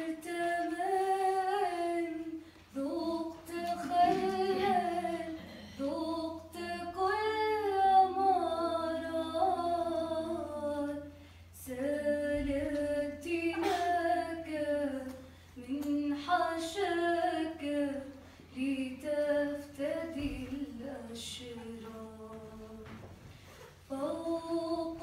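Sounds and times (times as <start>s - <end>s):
woman singing a hymn: 0.0s - 23.0s, 23.9s - 25.0s.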